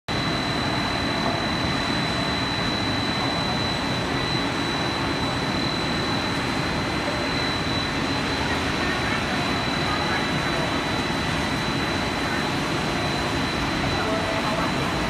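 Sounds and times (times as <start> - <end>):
high-pitched whine: 0.1 - 15.0
machine drone: 0.1 - 15.0.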